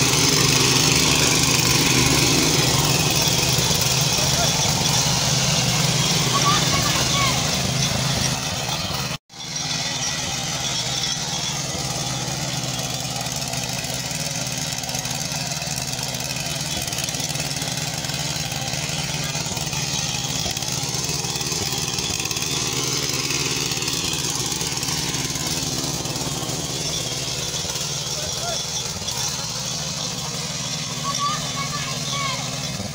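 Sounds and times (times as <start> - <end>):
petrol engine running under load: 0.0 - 32.9.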